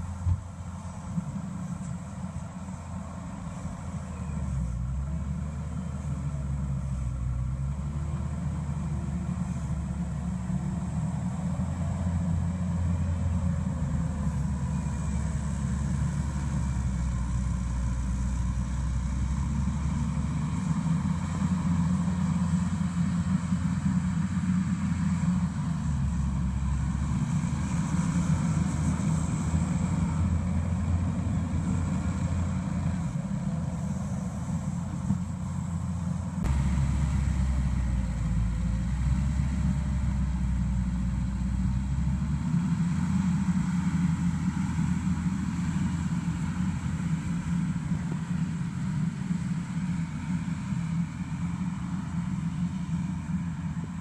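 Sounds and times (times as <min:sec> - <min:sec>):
track loader diesel engine: 0:00.0 - 0:54.0.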